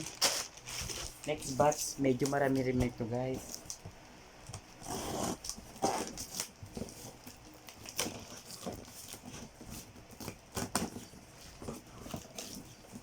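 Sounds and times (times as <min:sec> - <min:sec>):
packaging rustling: 0:00.0 - 0:03.8, 0:04.5 - 0:13.0.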